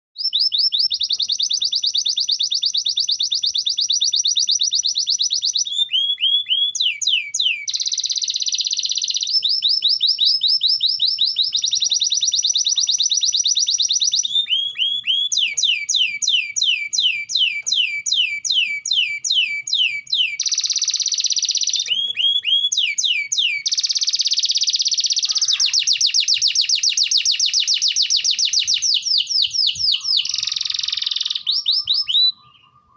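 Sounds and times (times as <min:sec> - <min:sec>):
canary singing: 0:00.2 - 0:32.9.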